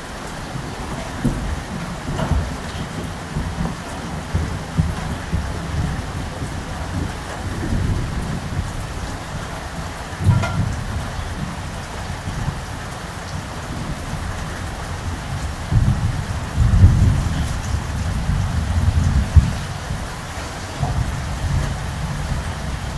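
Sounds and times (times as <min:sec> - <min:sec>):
rain falling: 0:00.0 - 0:22.9
rolling thunder: 0:00.0 - 0:22.9.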